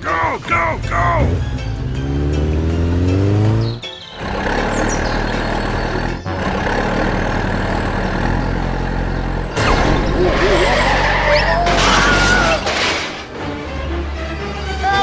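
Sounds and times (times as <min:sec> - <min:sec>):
heavy vehicle engine running: 0:00.8 - 0:15.0.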